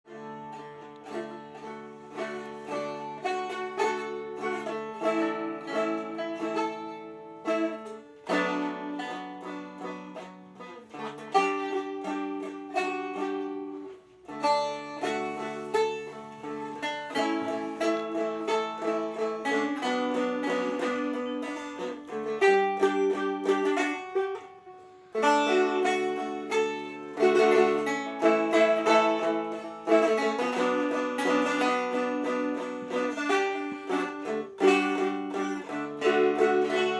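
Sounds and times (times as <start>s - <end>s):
plucked dulcimer melody: 0.1s - 36.9s.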